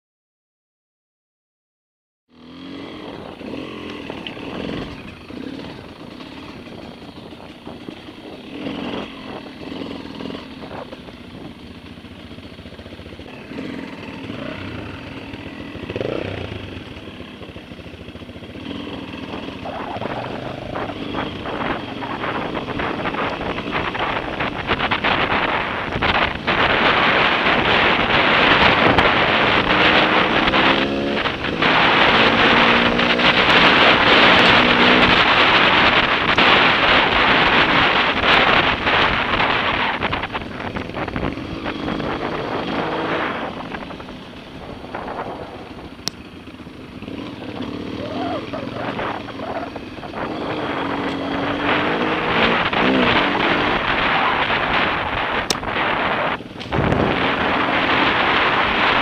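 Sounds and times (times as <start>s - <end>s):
dirt bike engine: 2.3s - 59.0s
wind rush on microphone: 2.9s - 59.0s.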